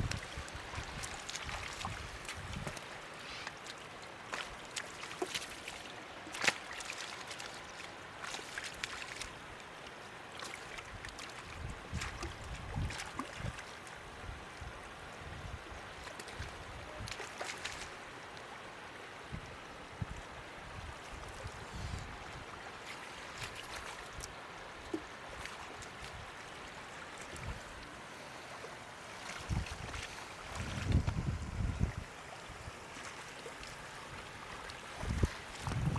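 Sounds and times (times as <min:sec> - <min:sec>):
water splashing and trickling: 0:00.0 - 0:35.9.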